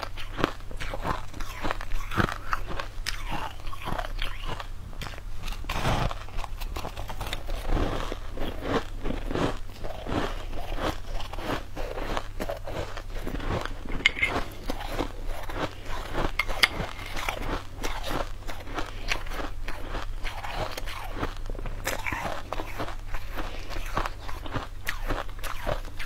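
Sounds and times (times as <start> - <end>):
mouth crunching shaved ice: 0.0 - 26.0.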